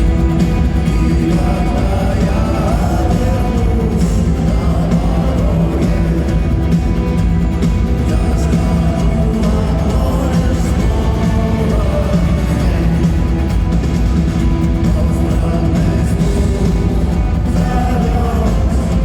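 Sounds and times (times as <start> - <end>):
person singing: 0.0 - 19.0
rock band playing live: 0.0 - 19.0.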